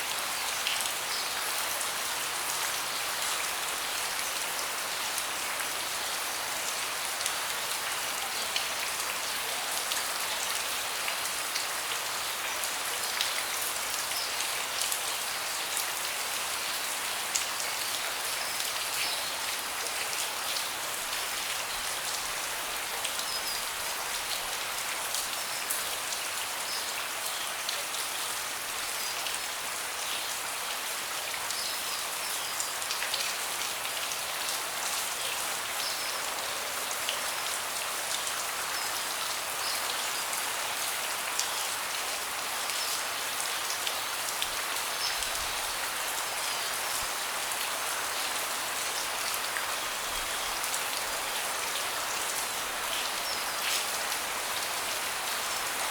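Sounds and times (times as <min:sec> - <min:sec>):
rain falling on a deck: 0:00.0 - 0:55.9.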